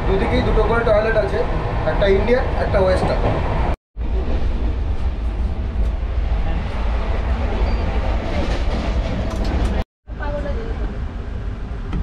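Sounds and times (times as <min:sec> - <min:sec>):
train rumble and rattle: 0:00.0 - 0:12.0.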